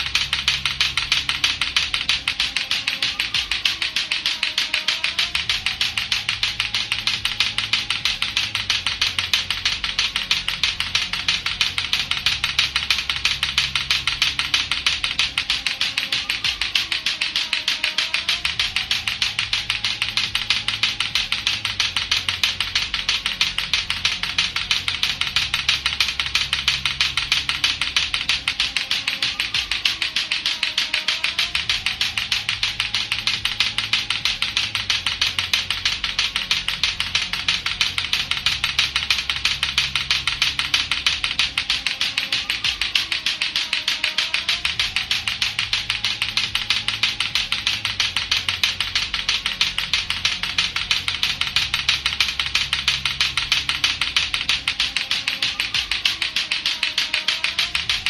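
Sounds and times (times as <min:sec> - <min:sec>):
clacker toy balls clacking: 0:00.0 - 0:58.0.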